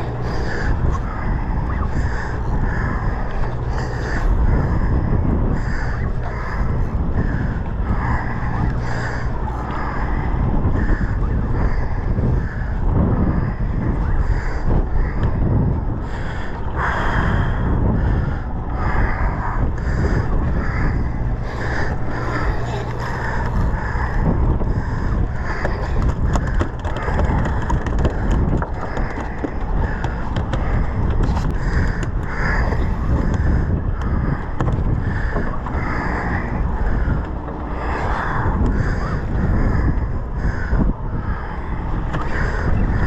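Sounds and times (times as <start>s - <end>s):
boat engine rumble: 0.0s - 43.0s
water noise: 0.0s - 43.0s
wind on microphone: 0.0s - 43.0s.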